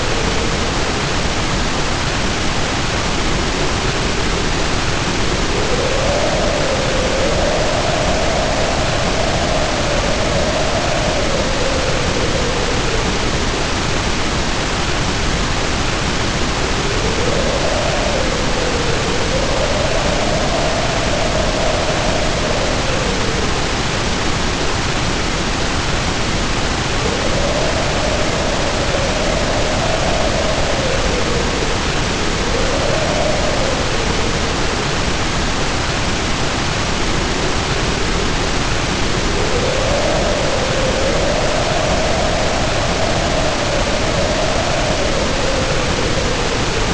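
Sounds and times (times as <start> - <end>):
heavy rain pouring: 0.0 - 46.9
wind howling: 0.0 - 46.9.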